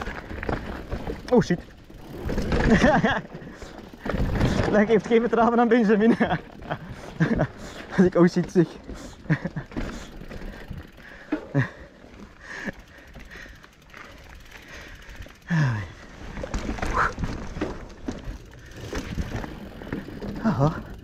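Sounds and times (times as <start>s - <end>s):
bike knocking and rattling: 0.0s - 21.0s
bike tyre noise on dirt: 0.0s - 21.0s.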